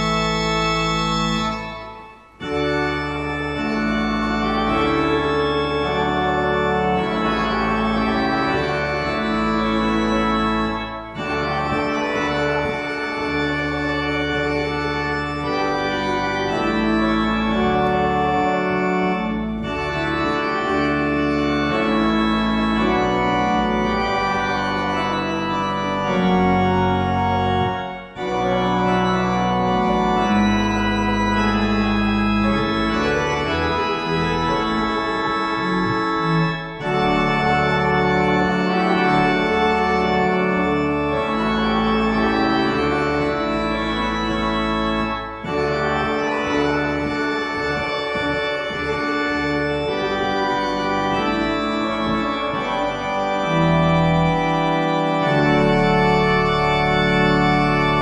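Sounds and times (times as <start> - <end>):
organ playing held chords: 0.0 - 58.0.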